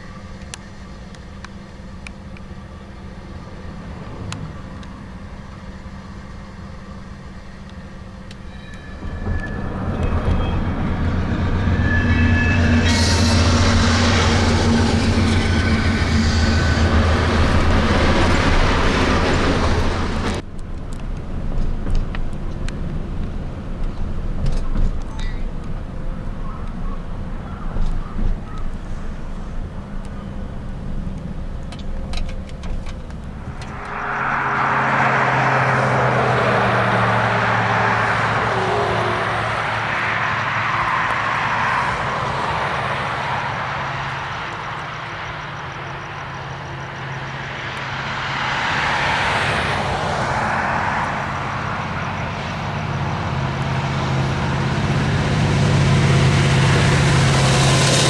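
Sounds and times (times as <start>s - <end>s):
diesel locomotive engine drone: 0.0s - 58.0s
train rushing by: 0.0s - 58.0s.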